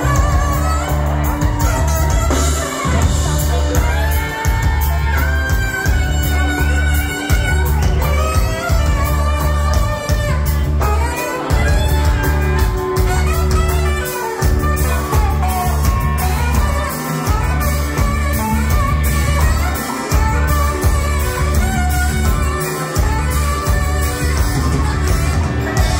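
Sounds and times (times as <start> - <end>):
live rock band playing: 0.0 - 25.9.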